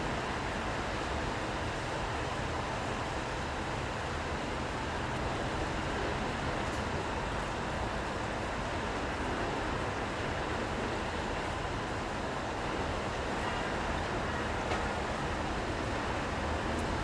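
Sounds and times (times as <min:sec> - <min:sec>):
rain: 0:00.0 - 0:17.0.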